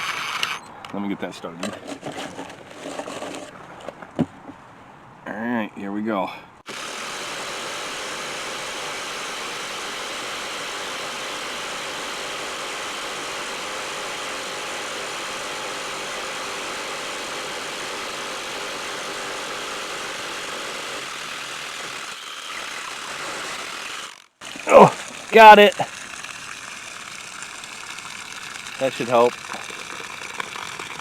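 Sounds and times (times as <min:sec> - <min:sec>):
power drill boring: 0:00.0 - 0:00.6, 0:06.7 - 0:31.0.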